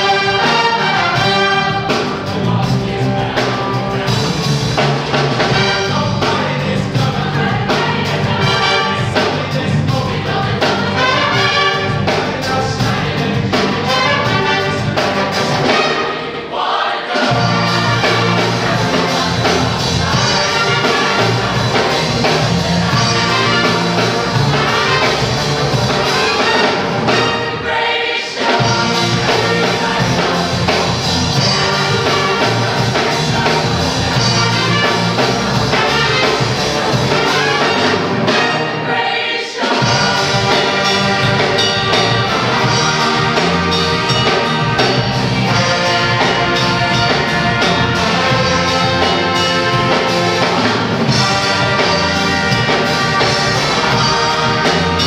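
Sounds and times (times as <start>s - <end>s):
group of singers singing: 0.0s - 55.0s
jazz big band playing: 0.0s - 55.0s.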